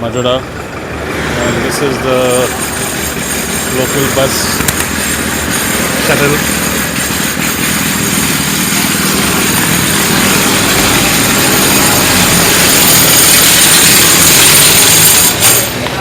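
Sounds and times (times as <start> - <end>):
bus engine hum: 0.0 - 16.0
road and wind noise: 0.0 - 16.0.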